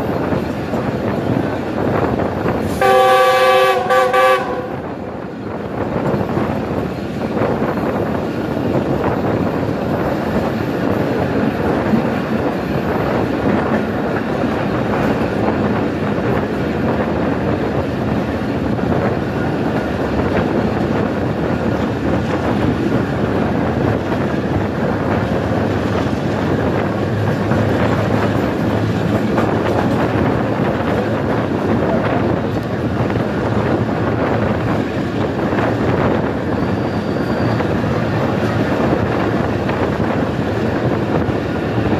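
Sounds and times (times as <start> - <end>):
train wheels rumbling on rails: 0.0 - 41.9
wheels clattering over rail joints: 5.3 - 41.9.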